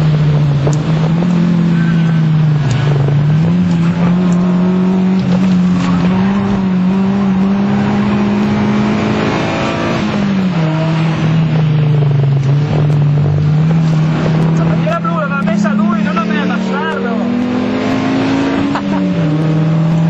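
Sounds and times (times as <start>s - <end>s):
car engine running under load: 0.0s - 20.0s.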